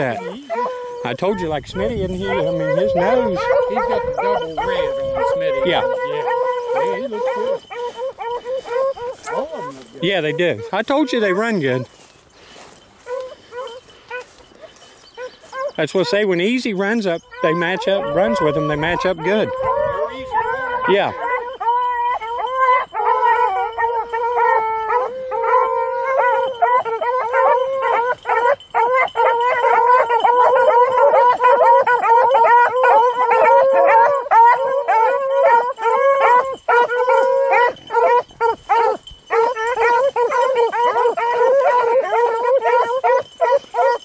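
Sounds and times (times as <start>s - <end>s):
beagles baying: 0.0s - 44.0s.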